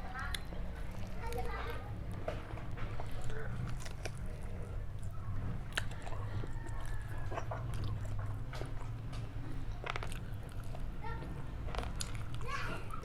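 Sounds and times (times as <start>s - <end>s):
mouth chewing and biting: 0.0s - 13.0s.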